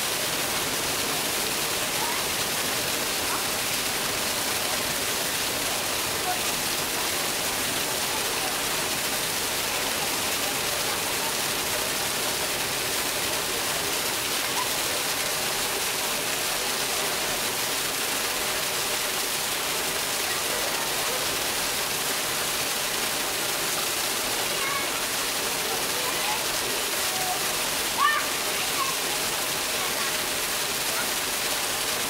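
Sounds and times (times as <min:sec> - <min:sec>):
waterfall splashing into pool: 0:00.0 - 0:32.0.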